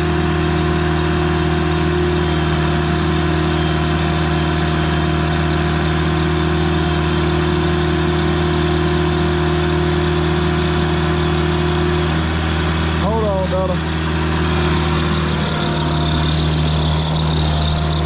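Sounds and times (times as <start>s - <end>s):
diesel engine running steadily: 0.0s - 18.0s.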